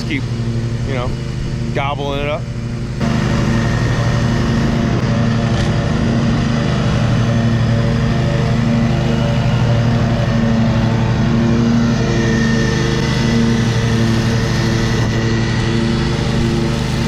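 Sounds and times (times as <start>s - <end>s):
riding lawn mower engine: 0.0s - 17.0s.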